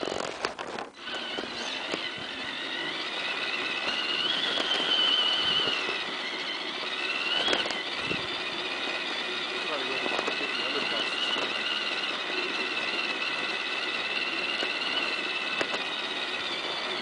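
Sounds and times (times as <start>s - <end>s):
toy car motor and gearbox whining: 0.0s - 17.0s.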